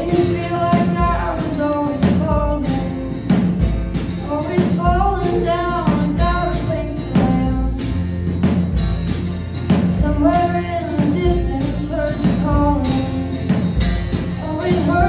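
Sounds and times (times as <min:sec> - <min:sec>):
woman singing: 0:00.0 - 0:03.4, 0:04.1 - 0:08.0, 0:09.8 - 0:15.0
acoustic guitar: 0:00.0 - 0:15.0
drum kit beat: 0:00.0 - 0:15.0.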